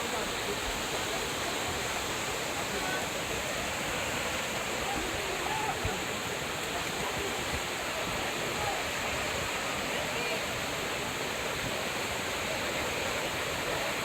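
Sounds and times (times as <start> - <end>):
faint voices: 0.0 - 14.0
water rushing: 0.0 - 14.0.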